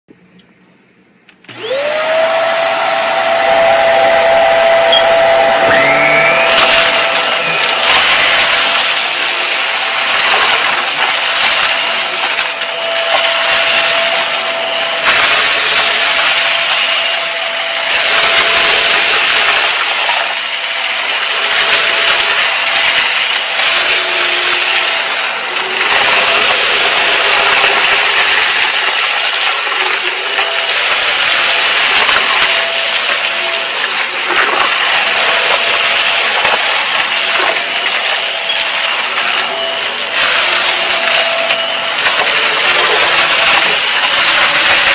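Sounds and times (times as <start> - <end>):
vacuum motor whine: 1.4 - 44.9.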